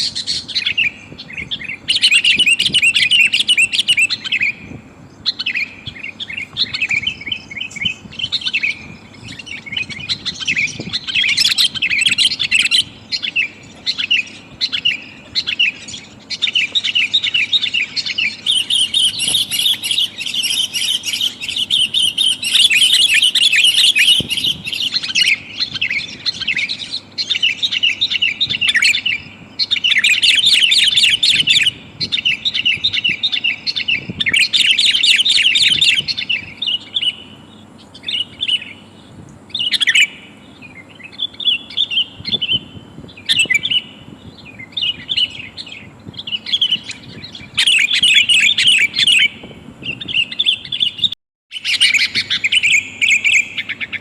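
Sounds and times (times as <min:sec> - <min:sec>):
bulbul chattering chirps: 0:00.0 - 0:54.0.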